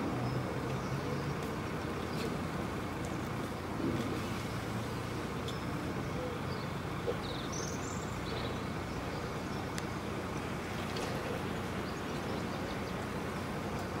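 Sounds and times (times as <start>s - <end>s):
river water running: 0.0s - 14.0s.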